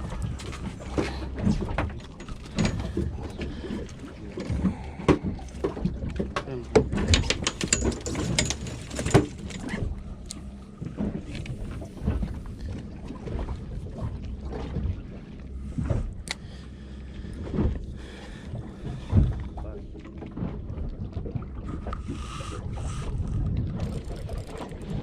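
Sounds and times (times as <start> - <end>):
knocks and rattles on a boat: 0.0 - 25.0
water and wind against hull: 0.0 - 25.0.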